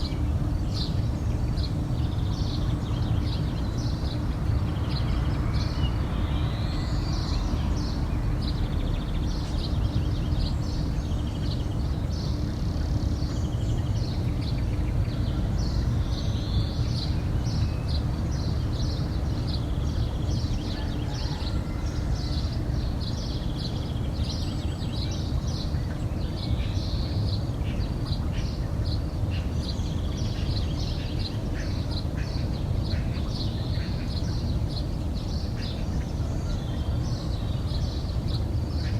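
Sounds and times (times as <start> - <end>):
small birds chirping and trilling: 0.0 - 38.9
steady low hum: 0.0 - 38.9.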